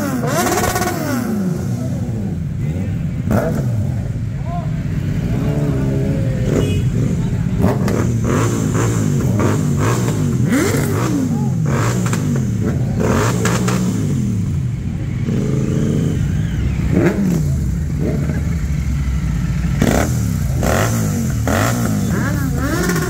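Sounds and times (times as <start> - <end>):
motorbike engines revving: 0.0 - 23.0.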